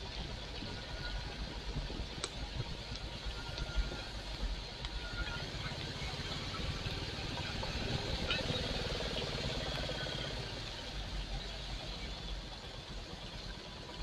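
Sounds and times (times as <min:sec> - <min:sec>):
wet road and wind hiss: 0:00.0 - 0:14.0.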